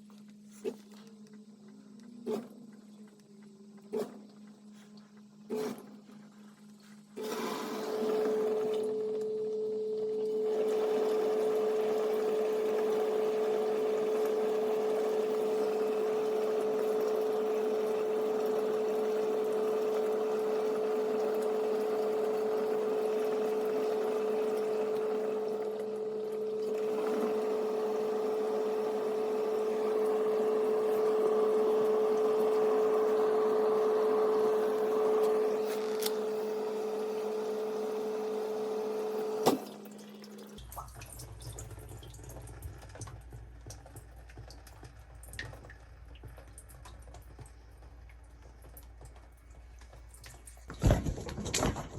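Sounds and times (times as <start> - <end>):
dishwasher pump running: 0.0 - 51.9.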